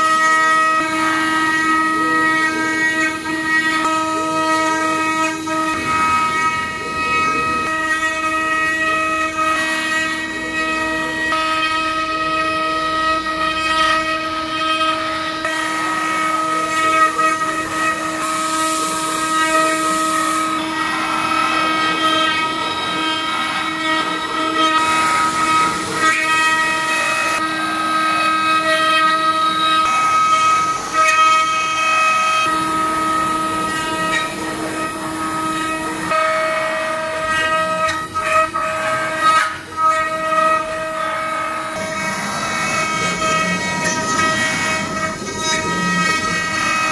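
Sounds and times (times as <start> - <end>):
router bits carving wood: 0.0 - 46.9
wood router spindles whining: 0.0 - 46.9.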